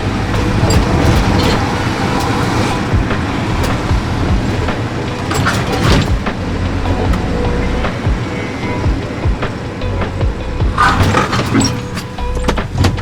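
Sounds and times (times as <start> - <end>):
car engine rumbling: 0.0 - 13.0
engine knocks and rattles: 0.0 - 13.0.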